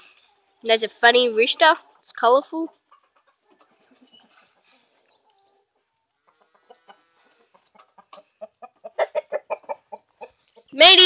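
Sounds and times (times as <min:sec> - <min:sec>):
chickens clucking: 0:00.0 - 0:10.8.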